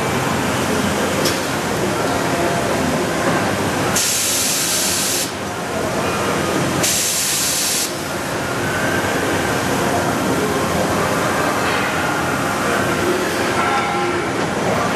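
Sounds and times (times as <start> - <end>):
machining center running: 0.0 - 14.9.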